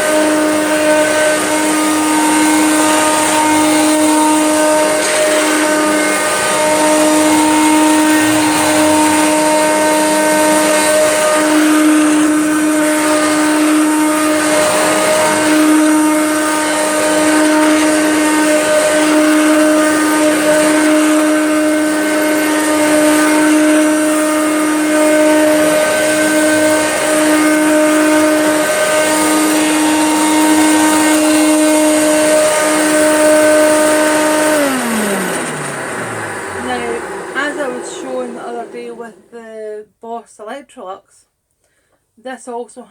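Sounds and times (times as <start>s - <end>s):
vacuum cleaner running: 0.0s - 39.8s.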